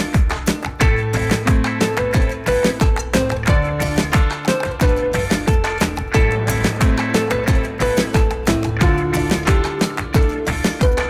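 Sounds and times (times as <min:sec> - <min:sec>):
upbeat latin-style music: 0:00.0 - 0:11.0.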